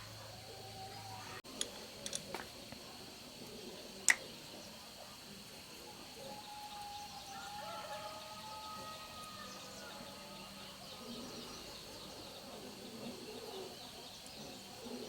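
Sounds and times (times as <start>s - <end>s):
bird calls: 0.0s - 15.0s.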